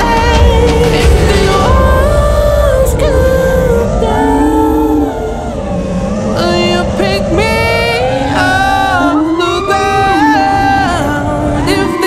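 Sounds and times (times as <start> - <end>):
electronic pop song with vocals: 0.0 - 12.0.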